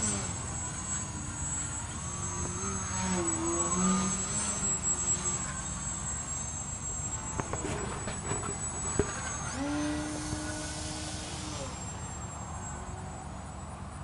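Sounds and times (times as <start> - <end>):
model plane motor whining: 0.0 - 14.0.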